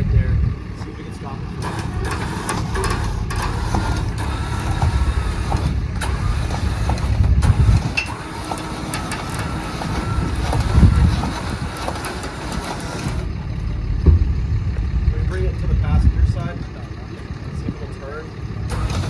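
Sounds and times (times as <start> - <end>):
truck engine low rumble: 0.0 - 19.0.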